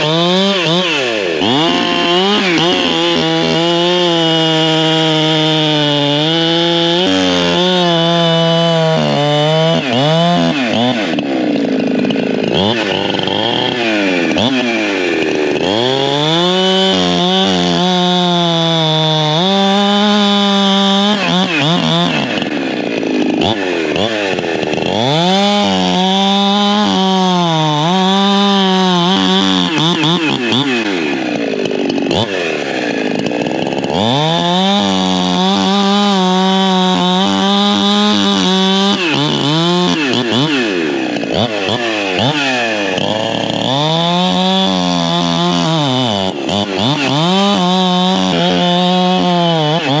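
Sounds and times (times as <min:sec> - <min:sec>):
chainsaw cutting a log: 0:00.0 - 0:50.0.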